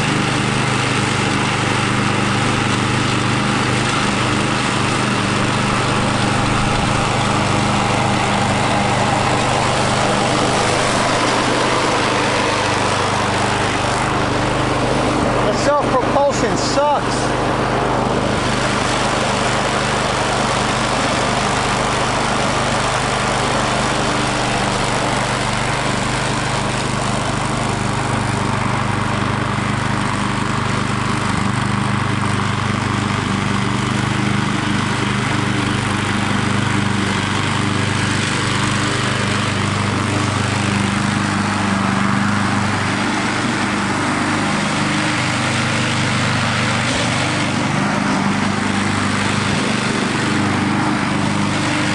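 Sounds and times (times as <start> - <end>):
push lawn mower engine running: 0.0 - 51.9.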